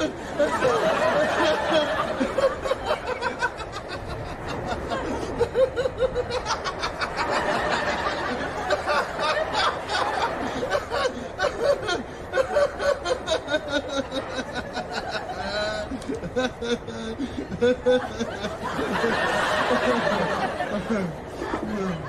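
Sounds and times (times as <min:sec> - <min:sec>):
audience laughing: 0:00.0 - 0:22.0.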